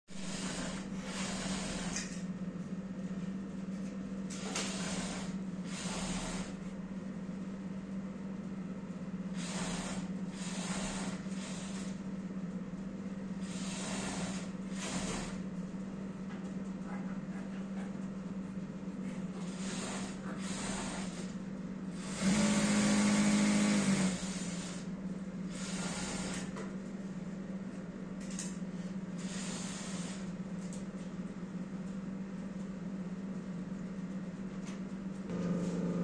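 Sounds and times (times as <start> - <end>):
steady low hum: 0.1 - 36.0.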